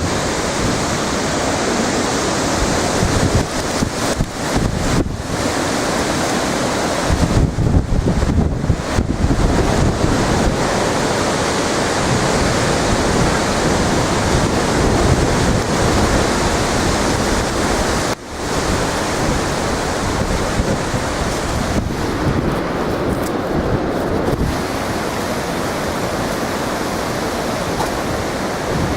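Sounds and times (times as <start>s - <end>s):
strong wind buffeting microphone: 0.0s - 28.9s.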